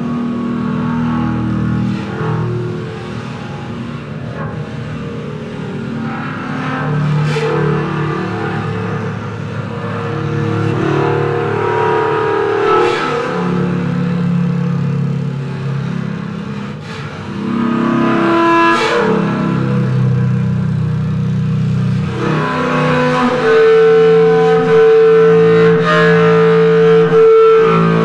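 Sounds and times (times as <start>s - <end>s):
ambient drone on electric bass: 0.0s - 28.0s.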